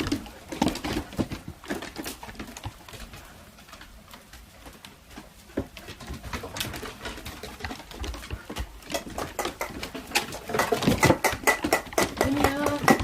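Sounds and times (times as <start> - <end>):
beaks pecking at grain: 0.0 - 13.0.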